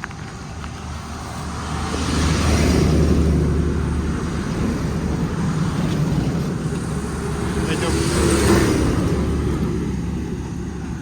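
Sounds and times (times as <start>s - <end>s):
vehicle passing close by: 0.5s - 11.0s.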